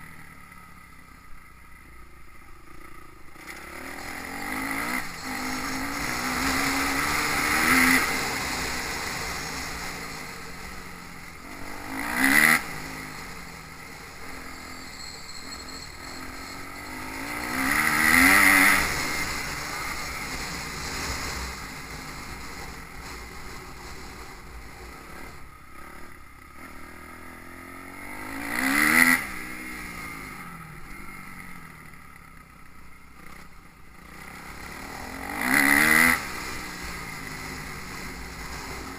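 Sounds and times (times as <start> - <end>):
distant motorcycle engines: 0.0 - 38.9
motocross bikes passing: 2.6 - 38.9.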